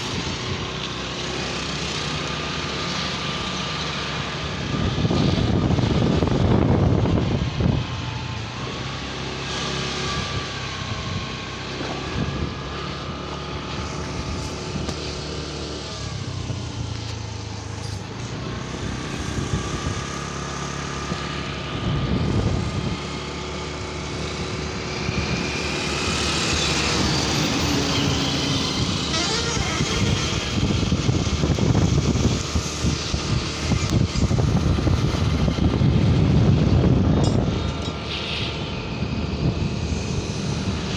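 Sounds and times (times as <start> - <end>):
motorcycle engine running: 0.0 - 38.0
rushing wind: 0.0 - 40.9
trucks passing: 0.0 - 40.9.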